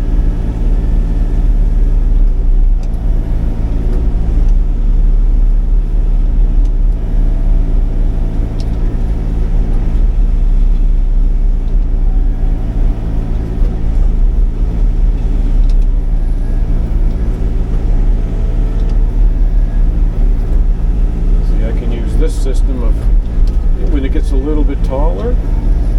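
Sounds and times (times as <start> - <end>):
diesel engine running under load: 0.0 - 25.9.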